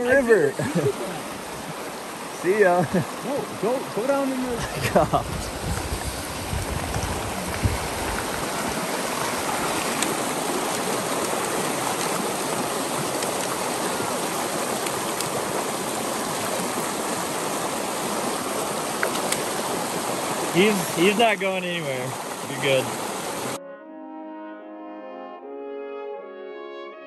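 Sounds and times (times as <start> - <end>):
stream rushing over stones: 0.0 - 23.6.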